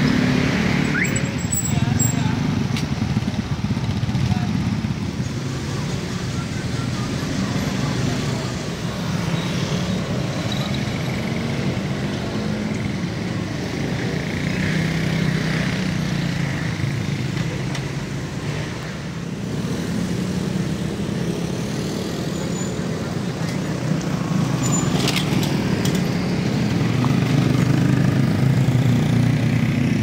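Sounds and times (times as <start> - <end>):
traffic engines humming: 0.0 - 30.0.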